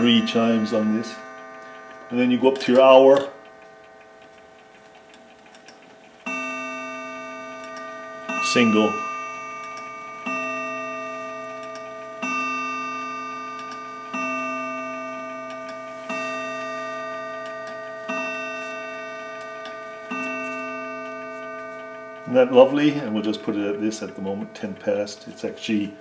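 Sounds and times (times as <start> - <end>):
mantel clock striking: 0.0 - 26.0.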